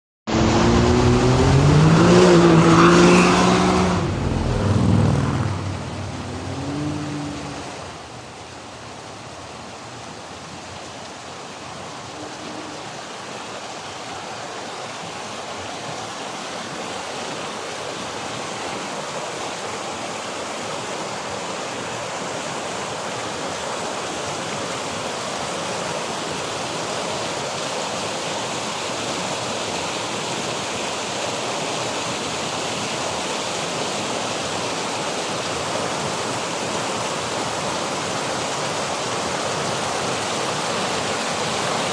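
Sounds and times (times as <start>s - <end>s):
waterfall rushing: 0.3s - 41.9s.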